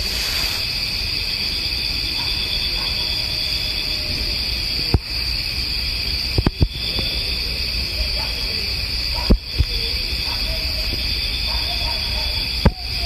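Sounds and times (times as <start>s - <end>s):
distant wavering howl: 0.0s - 13.0s
night insects chirping: 0.0s - 13.0s.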